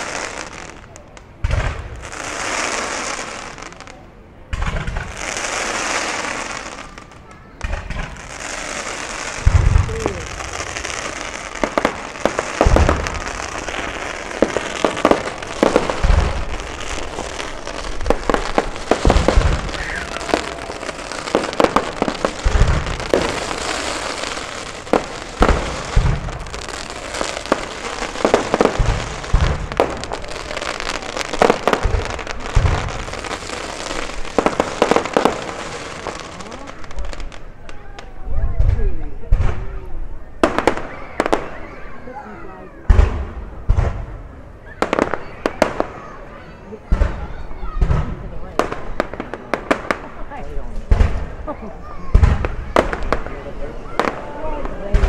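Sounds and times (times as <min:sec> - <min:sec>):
firework shells booming: 0:00.0 - 0:41.7, 0:42.8 - 0:46.1, 0:46.8 - 0:55.0
firework crackling: 0:00.0 - 0:55.0.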